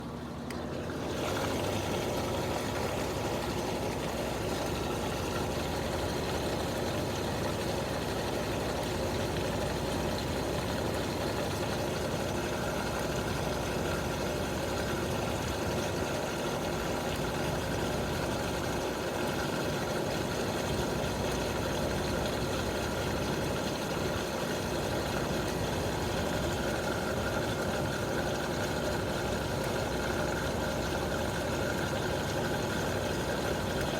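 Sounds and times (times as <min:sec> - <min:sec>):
washing machine spinning: 0:00.0 - 0:33.9.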